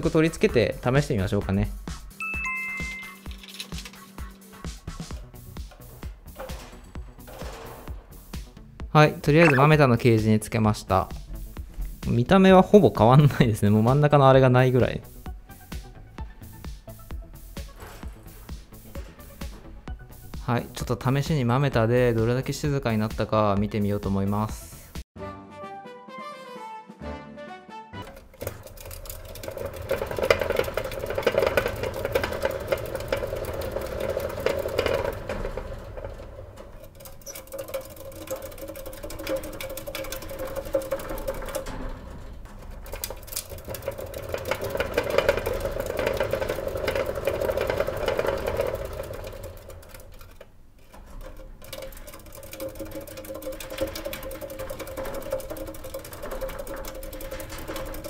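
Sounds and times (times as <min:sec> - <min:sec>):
exercise wheel rattling whir: 0:02.8 - 0:24.7, 0:28.0 - 0:58.0.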